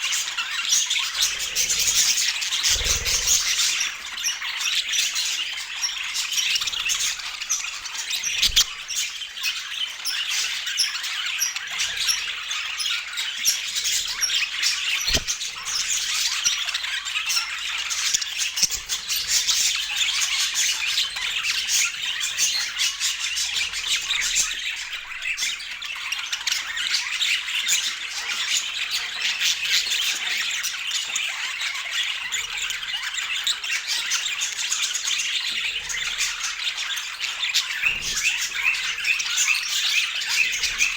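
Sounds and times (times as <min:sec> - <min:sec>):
small birds chattering: 0:00.0 - 0:40.9.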